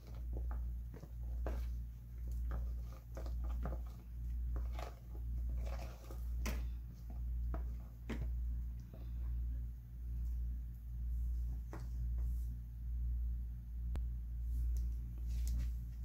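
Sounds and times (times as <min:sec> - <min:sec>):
low pulsing hum: 0:00.0 - 0:16.0.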